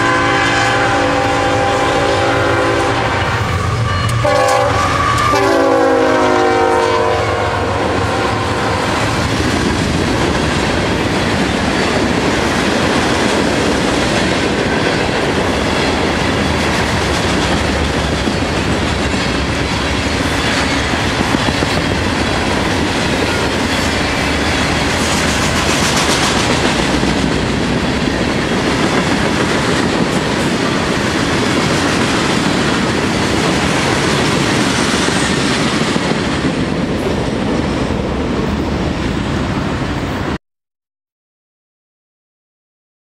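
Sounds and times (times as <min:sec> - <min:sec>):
train wheels rumbling on rails: 0:00.0 - 0:40.4.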